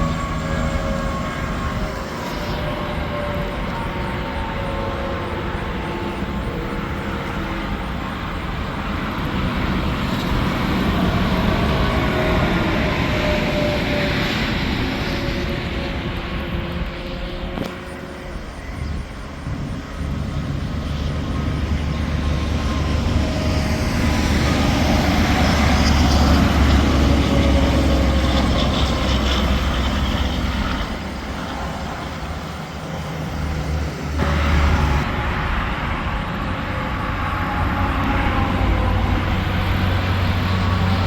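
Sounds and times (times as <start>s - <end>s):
traffic passing: 0.0s - 41.0s
trucks and cars engine rumble: 0.0s - 41.0s.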